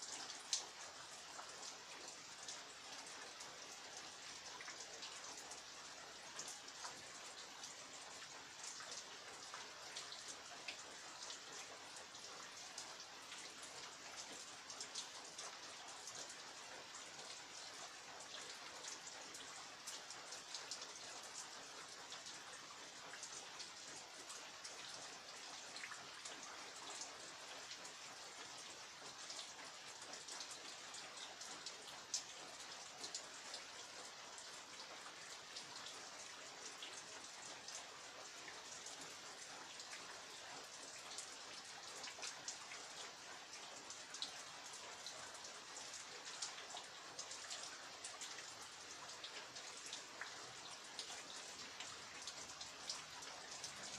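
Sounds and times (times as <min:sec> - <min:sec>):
rain falling steadily: 0:00.0 - 0:53.9.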